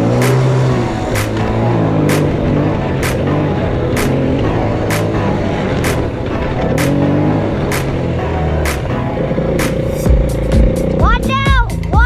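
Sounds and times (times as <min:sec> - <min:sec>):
quad bike engine revving: 0:00.0 - 0:11.9
background music with steady beat: 0:00.0 - 0:12.0.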